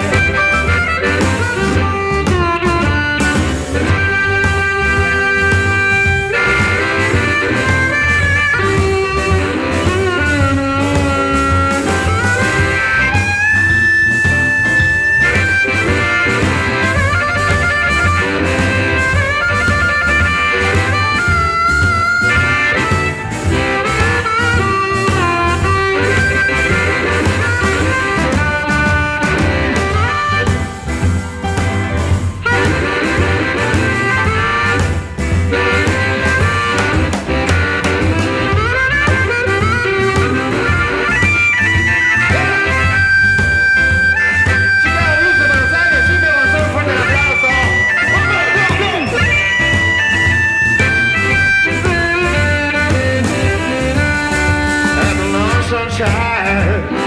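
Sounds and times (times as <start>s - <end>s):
drums: 0.0s - 57.0s
guitar: 0.0s - 57.0s
harmonica bending notes: 0.0s - 57.0s
steady bass beat: 0.0s - 57.0s
wind instrument blues melody: 0.0s - 57.0s.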